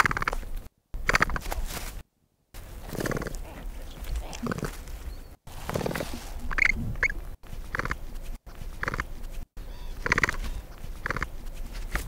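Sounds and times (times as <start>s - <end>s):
capybara rasping calls: 0.0s - 1.7s, 2.8s - 4.8s, 5.5s - 12.0s.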